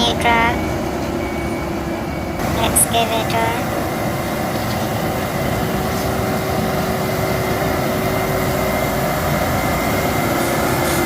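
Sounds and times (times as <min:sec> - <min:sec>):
excavator engine drone: 0:00.0 - 0:11.0.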